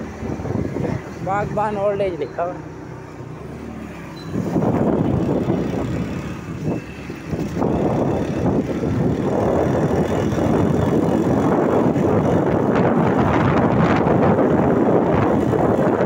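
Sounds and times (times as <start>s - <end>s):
wind buffeting microphone: 0.0s - 1.9s, 4.2s - 16.0s
vehicle rumble: 0.0s - 16.0s.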